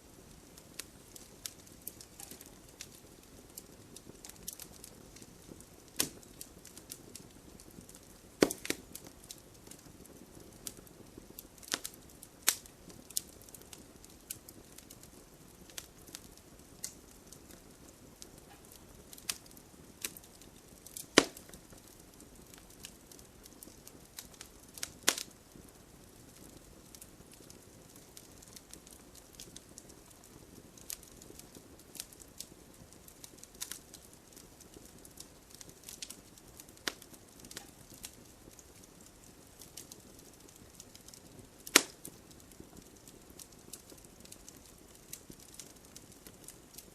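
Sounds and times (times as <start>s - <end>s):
faint low hiss: 0.0s - 46.9s
wood fire crackling and popping: 0.0s - 46.9s.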